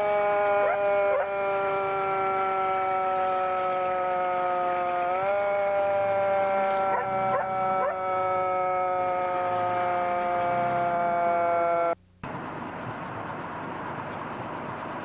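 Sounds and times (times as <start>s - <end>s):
fire engine siren wailing: 0.0s - 15.0s
rumbling engine: 0.0s - 15.0s.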